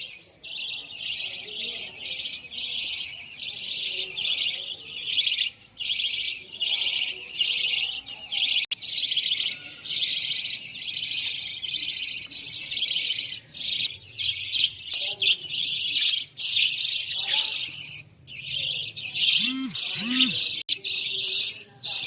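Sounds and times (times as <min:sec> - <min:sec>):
parrots chirping and chattering: 0:00.0 - 0:22.0.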